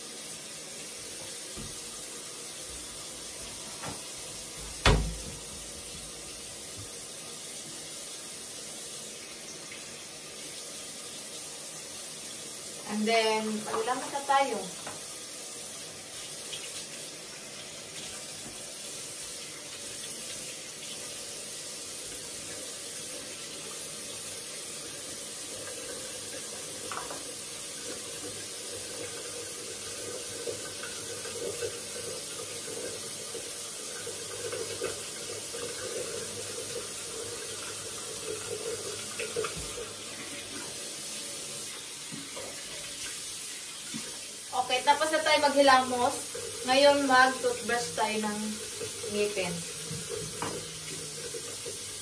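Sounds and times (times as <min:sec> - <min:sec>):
faucet running into sink: 0:00.0 - 0:52.0.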